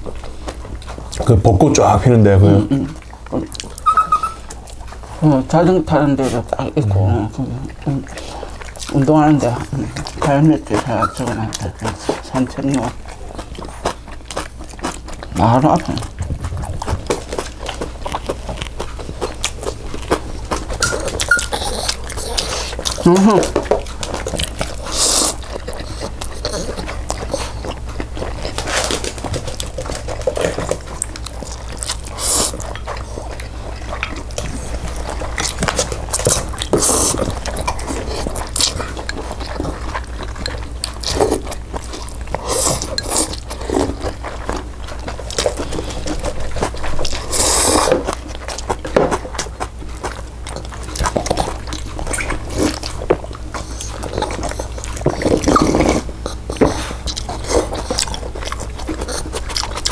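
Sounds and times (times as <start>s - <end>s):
person chewing food: 0.0s - 59.9s
steady low hum: 0.0s - 59.9s.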